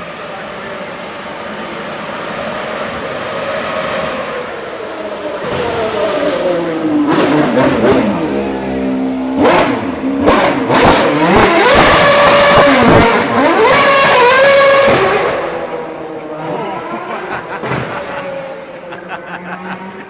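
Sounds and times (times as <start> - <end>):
racing car engine revving: 0.4 - 20.0.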